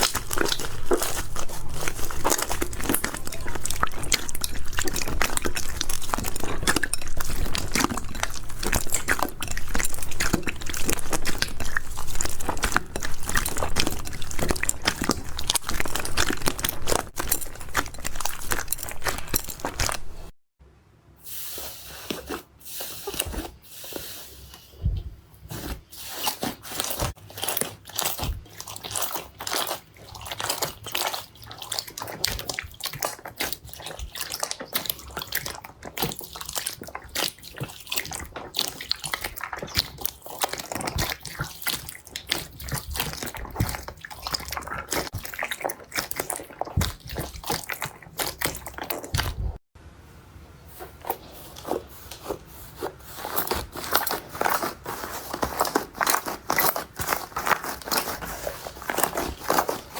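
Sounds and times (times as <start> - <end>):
hands squeezing crunchy slime: 0.0 - 20.4, 25.5 - 49.6, 50.7 - 59.9.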